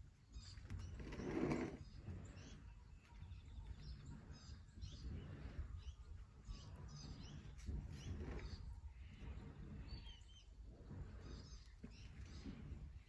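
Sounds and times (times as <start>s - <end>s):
low steady rumble: 0.0s - 13.0s
wild birds chirping: 0.2s - 13.0s.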